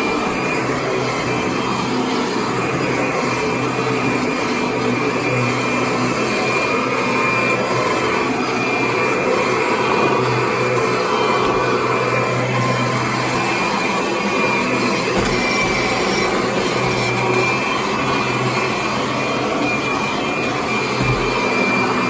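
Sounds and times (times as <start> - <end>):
vacuum cleaner motor whine: 0.0 - 22.0.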